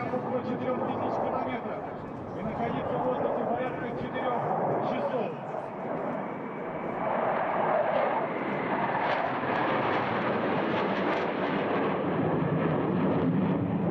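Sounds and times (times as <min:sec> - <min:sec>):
jet fighter flying past: 0:00.0 - 0:13.9.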